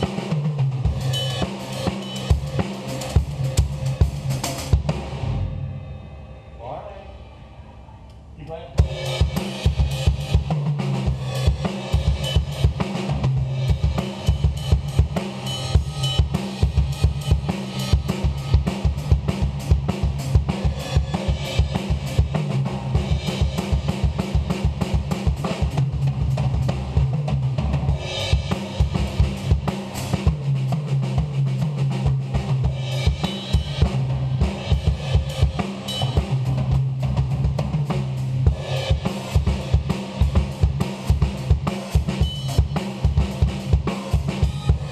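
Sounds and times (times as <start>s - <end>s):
drum kit groove: 0.0s - 6.0s, 8.7s - 44.9s.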